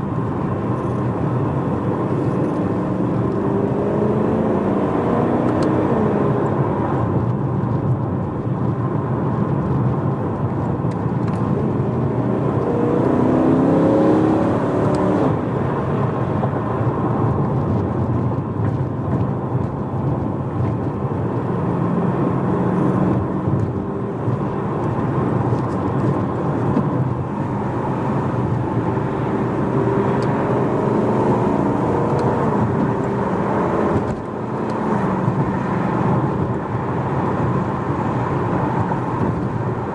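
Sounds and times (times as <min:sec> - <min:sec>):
car engine revving: 0:00.0 - 0:07.2, 0:09.7 - 0:39.9
road and tyre noise: 0:00.0 - 0:39.9.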